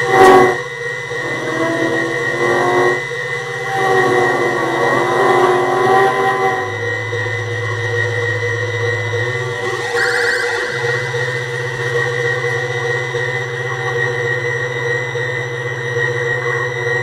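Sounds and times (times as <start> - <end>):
high synthesizer drone: 0.0 - 17.0
low buzzing synthesizer tone: 0.0 - 17.0
warbling mid-range synth tones: 1.2 - 17.0.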